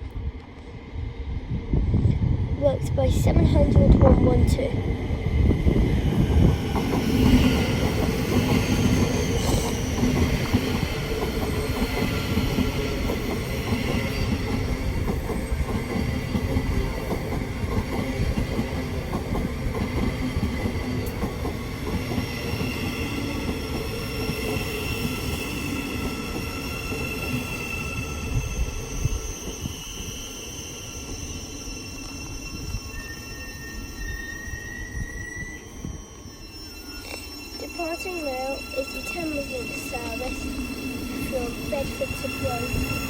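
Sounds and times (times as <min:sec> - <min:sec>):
electric train slowing: 0:00.0 - 0:43.0
train high whining tones: 0:00.0 - 0:43.0.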